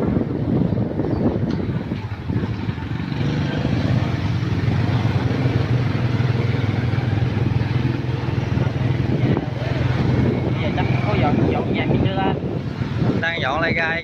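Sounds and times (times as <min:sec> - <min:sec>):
wind noise: 0:00.0 - 0:14.0.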